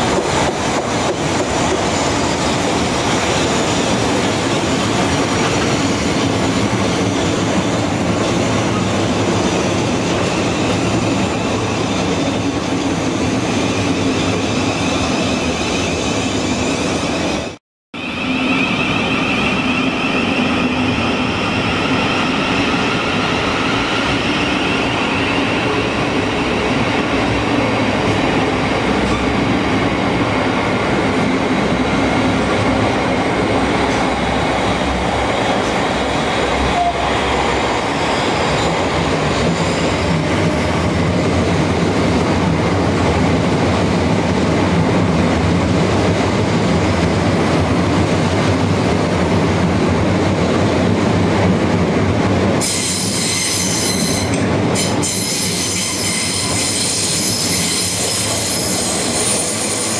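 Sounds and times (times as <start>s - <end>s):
train running hum: 0.0s - 59.9s.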